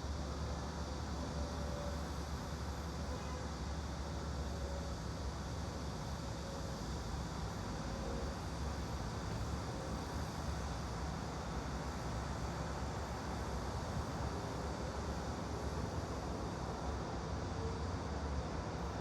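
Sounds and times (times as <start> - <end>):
steady white noise: 0.0 - 19.0.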